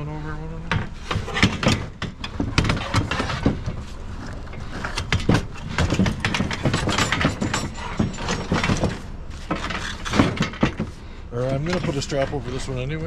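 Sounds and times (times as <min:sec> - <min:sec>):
metal chairs clattering: 0:00.7 - 0:12.8.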